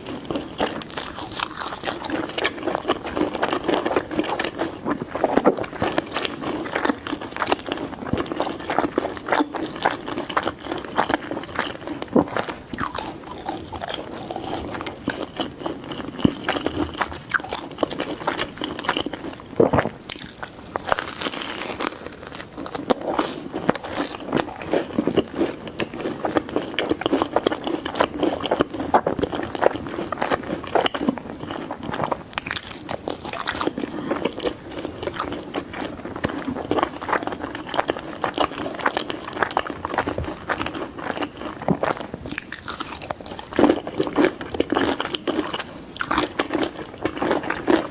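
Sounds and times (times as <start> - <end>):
chewing pizza crunches: 0.0 - 47.9.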